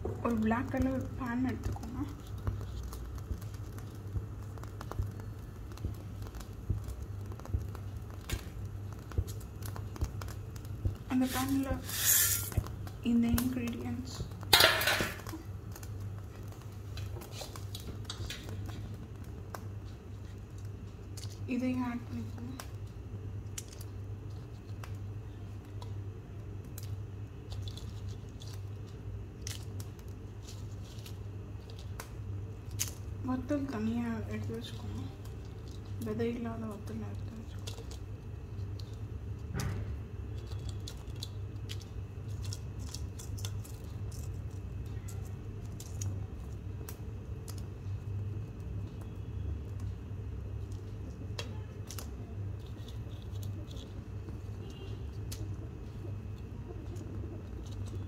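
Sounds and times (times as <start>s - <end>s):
spices crackling in a pan: 0.0s - 58.0s.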